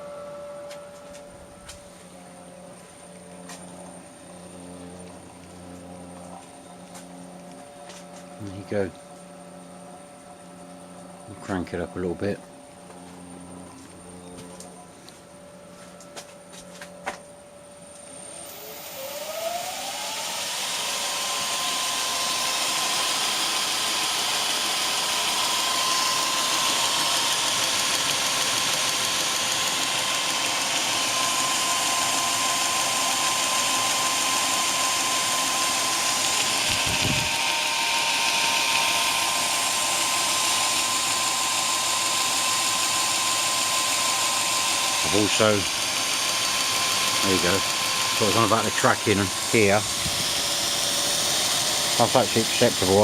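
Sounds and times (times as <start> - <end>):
belt grinder motor whine: 0.0 - 53.0.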